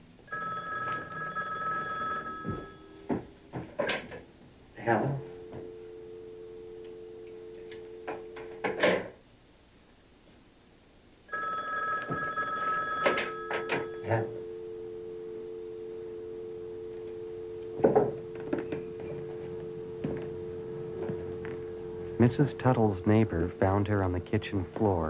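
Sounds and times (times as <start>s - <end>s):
telephone dial tone: 0.3s - 3.2s, 5.3s - 8.8s, 11.3s - 25.0s
higher steady phone tone: 0.3s - 8.8s, 11.3s - 25.0s.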